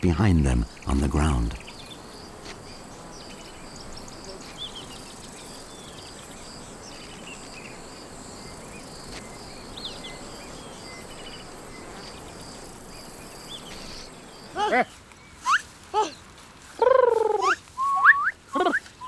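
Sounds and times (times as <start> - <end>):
insects chirring: 0.3 - 19.0.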